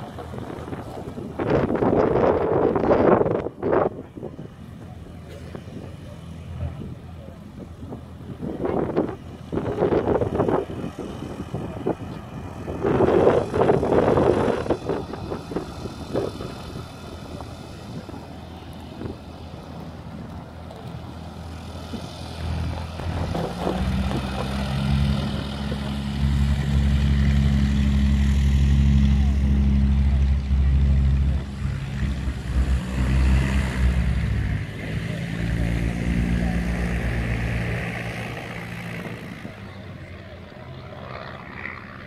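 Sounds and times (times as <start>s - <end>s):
biplane engine and propeller drone: 0.0s - 42.0s
wind buffeting microphone: 0.0s - 42.0s.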